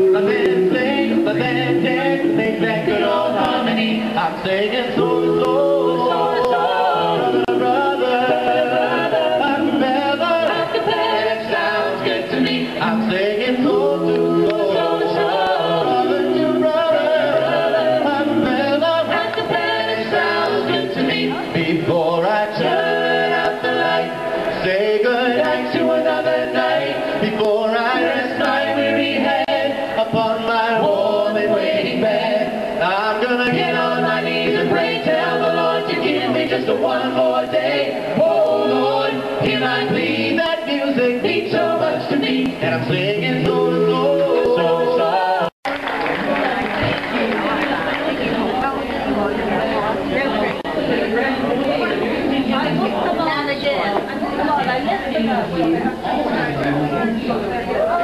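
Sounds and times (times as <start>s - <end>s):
male a cappella group singing: 0.0s - 48.6s.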